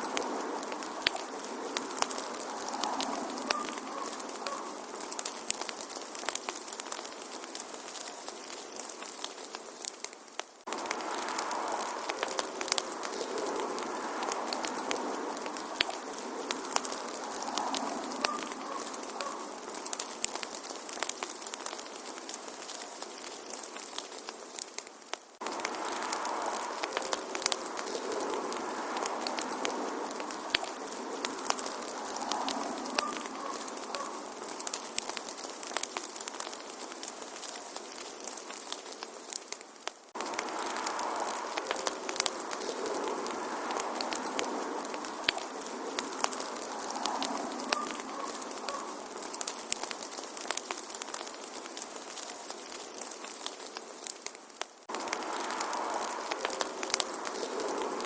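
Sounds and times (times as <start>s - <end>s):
steady hiss: 0.0s - 58.0s
wood fire crackling and popping: 0.0s - 58.0s.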